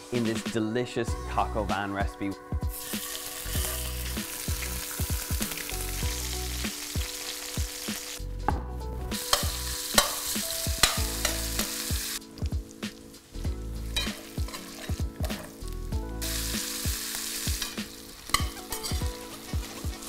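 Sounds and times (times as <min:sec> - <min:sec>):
chicken sizzling in oil: 0:02.7 - 0:08.2, 0:09.1 - 0:20.0.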